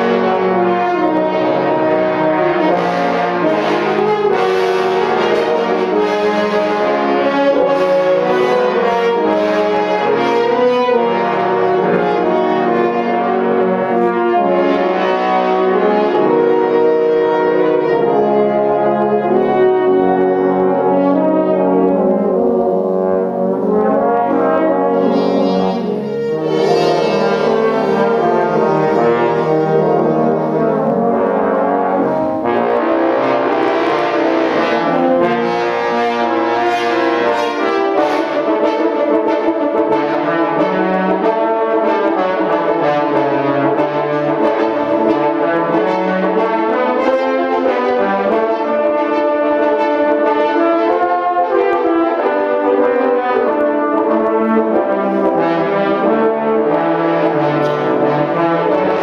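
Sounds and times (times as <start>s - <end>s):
brass ensemble playing: 0.0s - 59.0s.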